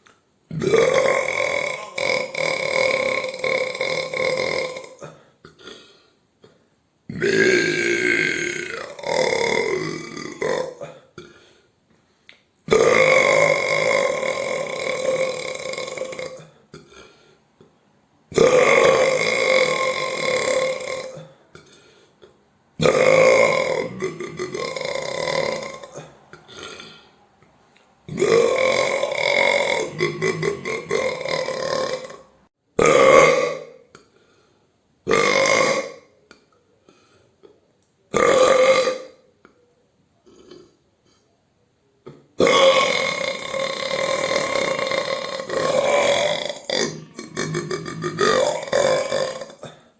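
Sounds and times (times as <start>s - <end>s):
loud human burps: 0.5s - 11.6s, 12.7s - 17.7s, 18.3s - 27.2s, 28.1s - 34.2s, 35.0s - 39.5s, 40.2s - 41.2s, 42.0s - 49.9s.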